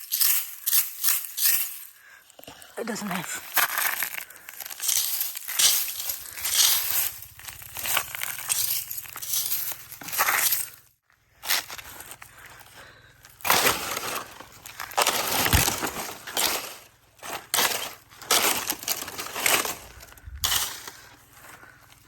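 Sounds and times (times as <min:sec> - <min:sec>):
dry plant debris crackling: 0:00.0 - 0:22.0.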